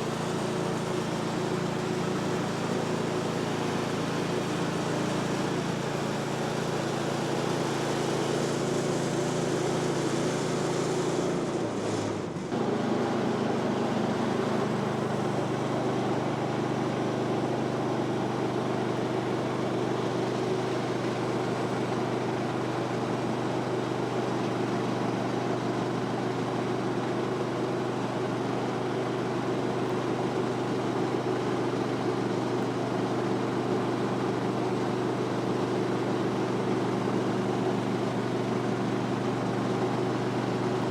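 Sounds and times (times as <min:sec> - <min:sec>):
sawmill gas engine running: 0:00.0 - 0:40.9.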